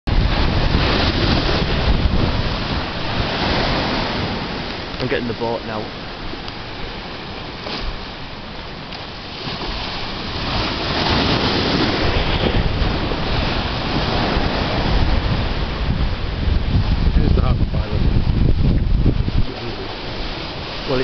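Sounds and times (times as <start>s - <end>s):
wind buffeting microphone: 0.0s - 21.0s
surf washing over rocks: 0.1s - 21.0s.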